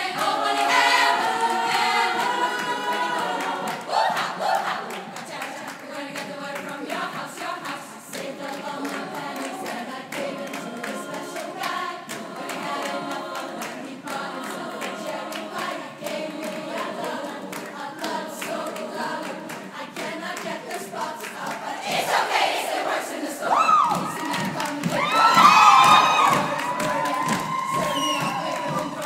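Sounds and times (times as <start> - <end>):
rhythmic hand claps: 0.0 - 29.0
women's choir singing: 0.0 - 29.0.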